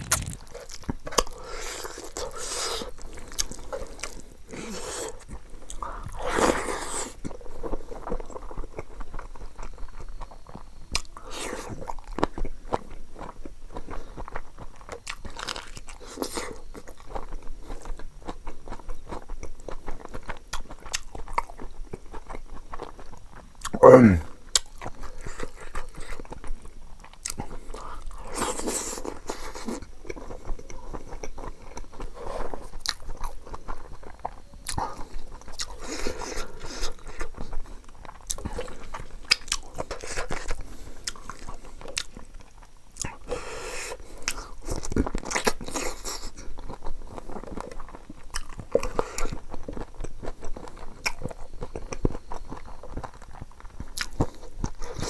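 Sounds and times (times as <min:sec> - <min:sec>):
food crunching: 0:00.0 - 0:55.0
wet chewing and lip-smacking: 0:00.0 - 0:55.0.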